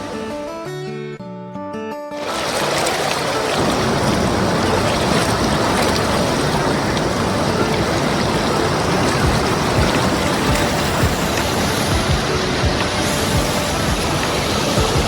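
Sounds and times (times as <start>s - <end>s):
waterfall roaring: 2.2s - 15.0s.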